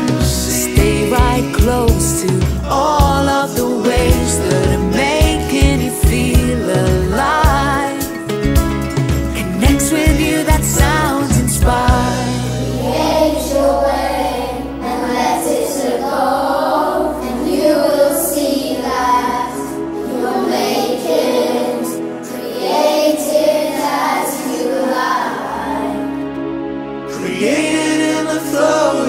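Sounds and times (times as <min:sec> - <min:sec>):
children's choir singing: 0:00.0 - 0:08.2, 0:09.4 - 0:29.0
backing track: 0:00.0 - 0:29.0.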